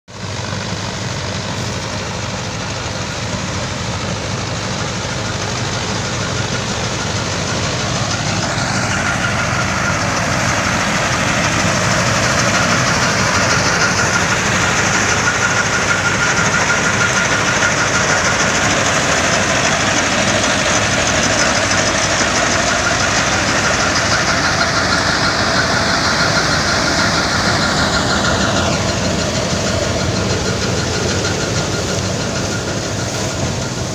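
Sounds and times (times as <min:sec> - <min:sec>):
tractor and harvester droning: 0:00.1 - 0:33.9.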